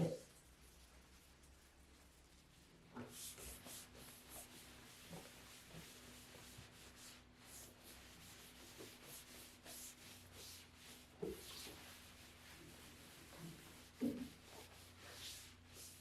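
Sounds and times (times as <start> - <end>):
soft hissing rubbing strokes: 0.0 - 16.0.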